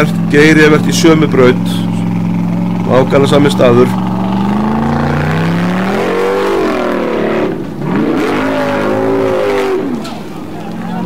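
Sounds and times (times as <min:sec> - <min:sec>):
car engine revving hard: 0:00.0 - 0:10.2.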